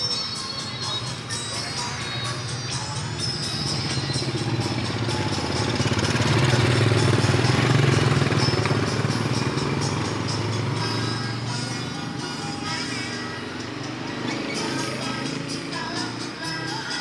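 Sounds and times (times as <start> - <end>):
small engine running: 0.5 - 17.0.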